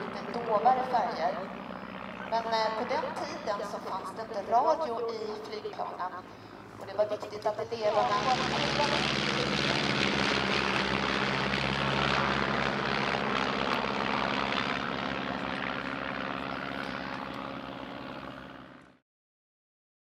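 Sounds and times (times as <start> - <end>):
propeller planes flying overhead: 0.0 - 19.0.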